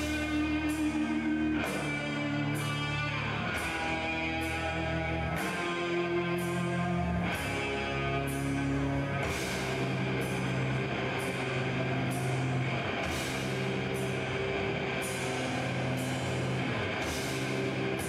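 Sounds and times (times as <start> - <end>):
death metal band playing: 0.0 - 18.0.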